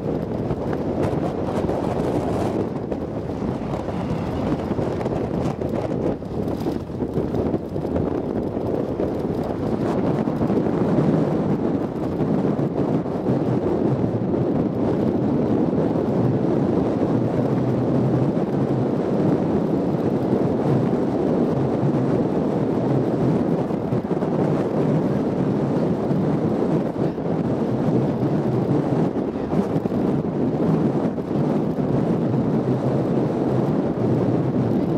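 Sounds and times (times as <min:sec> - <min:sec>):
vehicle engine and road rumble: 0:00.0 - 0:34.9
wind buffeting microphone: 0:00.0 - 0:34.9.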